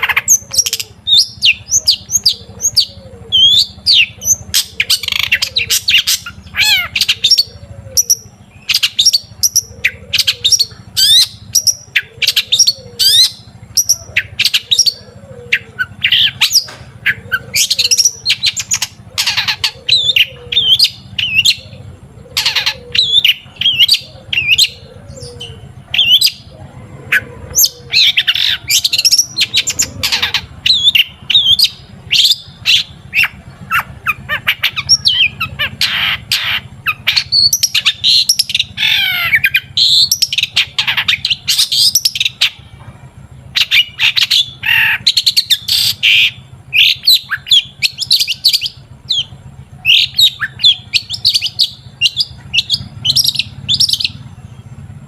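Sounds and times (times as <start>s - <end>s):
shrike singing: 0.0s - 55.0s.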